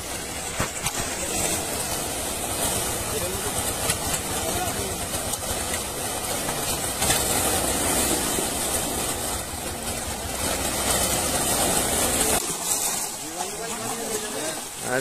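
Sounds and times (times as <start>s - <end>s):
fish thrashing and water splashing: 0.0s - 15.0s.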